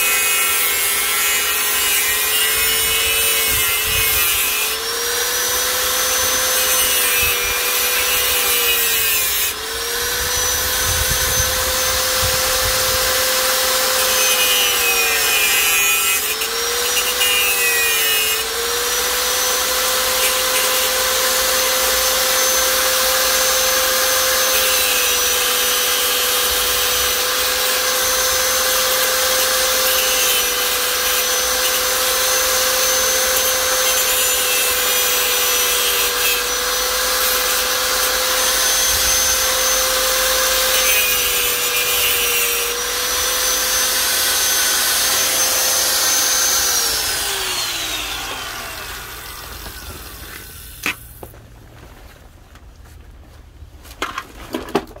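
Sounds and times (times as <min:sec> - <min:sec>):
power tool whine and grind: 0:00.0 - 0:51.3.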